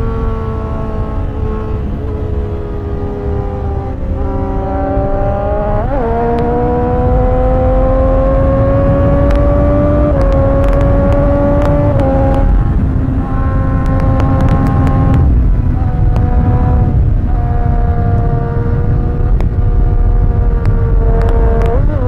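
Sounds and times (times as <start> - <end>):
motorcycle engine running hard: 0.0 - 22.0
wind rush on microphone: 0.0 - 22.0.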